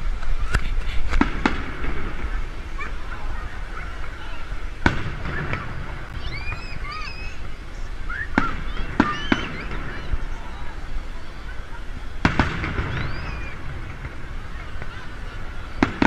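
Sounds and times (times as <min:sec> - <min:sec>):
crowd chattering: 0:00.0 - 0:16.0
fireworks bangs: 0:00.0 - 0:16.0.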